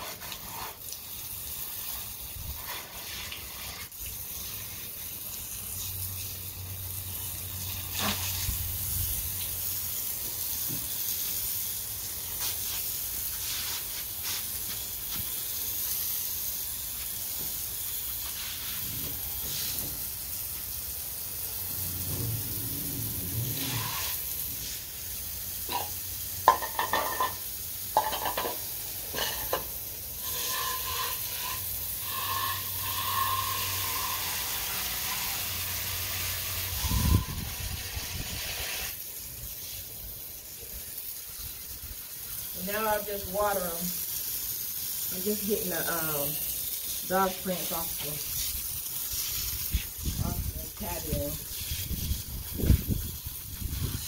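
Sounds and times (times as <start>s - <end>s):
rain hissing: 0.0s - 54.0s.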